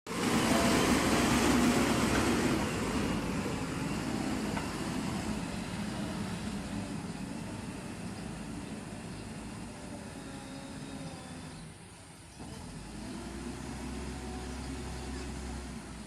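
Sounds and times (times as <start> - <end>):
diesel engine running: 0.1 - 16.0.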